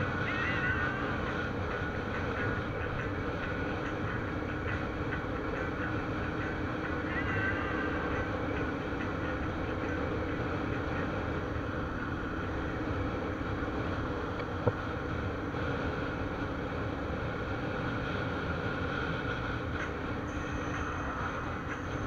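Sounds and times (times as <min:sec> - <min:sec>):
motorcycle running: 0:00.0 - 0:22.0
wind and road noise: 0:00.0 - 0:22.0.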